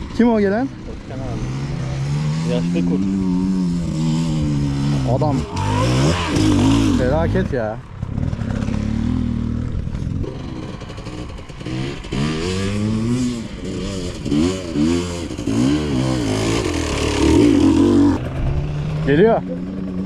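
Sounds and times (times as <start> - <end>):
dirt bike engine revving: 1.4 - 9.6, 10.2 - 18.8.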